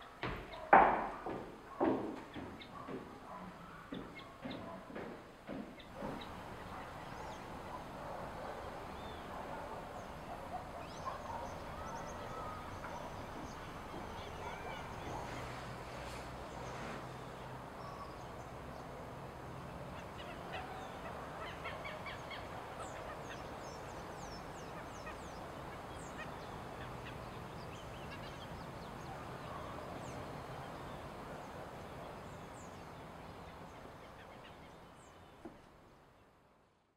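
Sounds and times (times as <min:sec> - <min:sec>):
birds calling and chirping: 0:00.0 - 0:36.3
outdoor ambience: 0:00.0 - 0:36.9.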